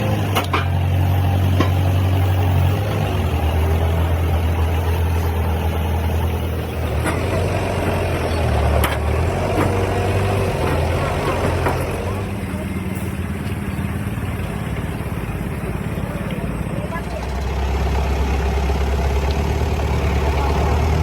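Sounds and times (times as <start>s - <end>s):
large engine idling: 0.0s - 21.0s.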